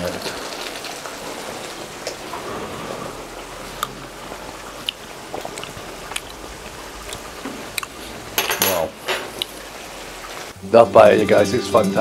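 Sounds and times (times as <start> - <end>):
stock bubbling in a pan: 0.0 - 10.6.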